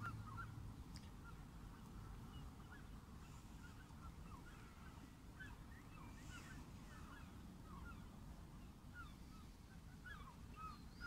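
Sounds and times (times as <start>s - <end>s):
distant birds calling: 0.0s - 11.0s.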